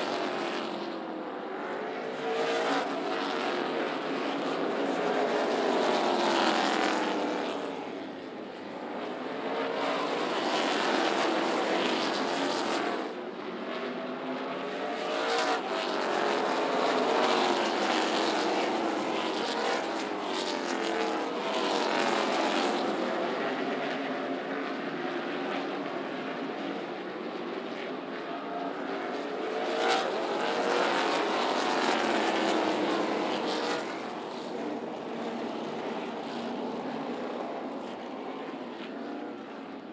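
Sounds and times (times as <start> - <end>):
race car engines passing: 0.0 - 39.8.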